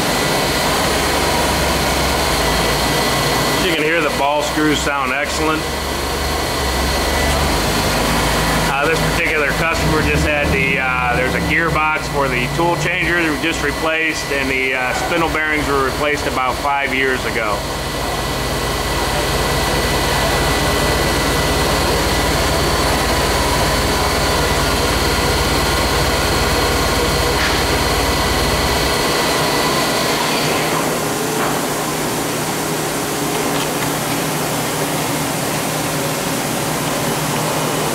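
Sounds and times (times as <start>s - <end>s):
low machine hum: 0.0s - 37.9s
machine spindle whine: 0.0s - 37.9s.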